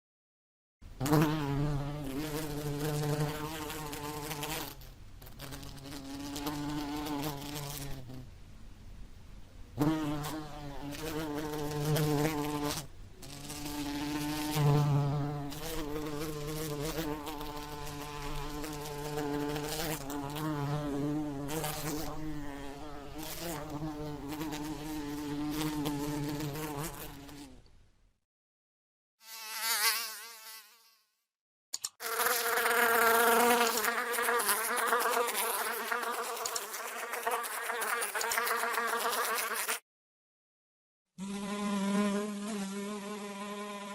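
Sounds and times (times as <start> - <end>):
housefly buzzing: 1.0 - 8.2, 9.8 - 27.6, 29.2 - 31.2, 32.0 - 39.8, 41.2 - 43.9.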